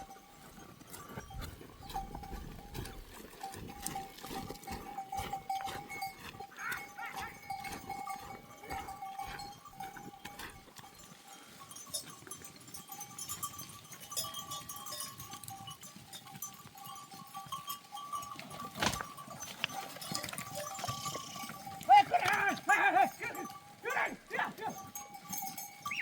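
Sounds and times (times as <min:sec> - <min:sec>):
animal bells clinking: 0:00.0 - 0:26.0.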